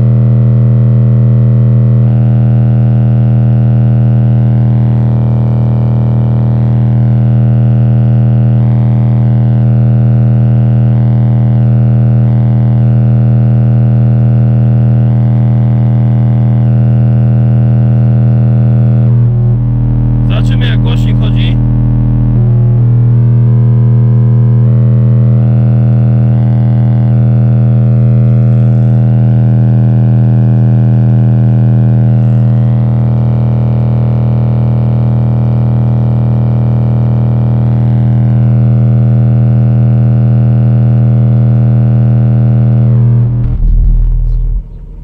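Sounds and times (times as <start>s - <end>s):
loud low subwoofer test tone: 0.0s - 45.0s.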